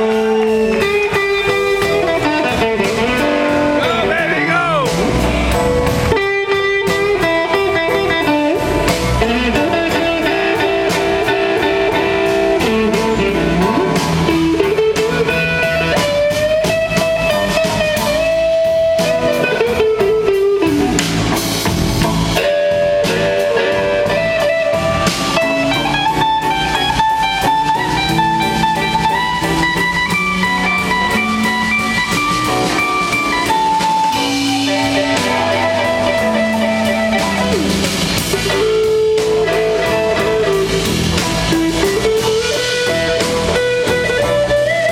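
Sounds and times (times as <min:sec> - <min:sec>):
blues-rock band playing: 0:00.0 - 0:44.9
electric guitar lead: 0:00.0 - 0:44.9.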